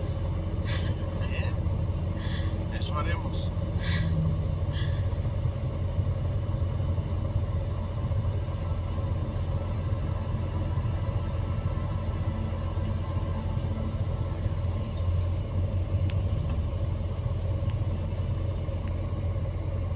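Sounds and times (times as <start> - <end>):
coach engine and road rumble: 0.0 - 19.9.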